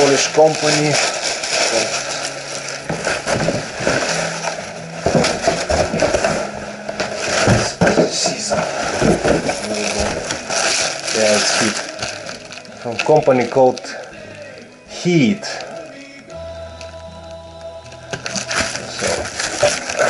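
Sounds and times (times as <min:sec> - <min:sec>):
plastic film and cardboard crinkling: 0:00.0 - 0:20.0.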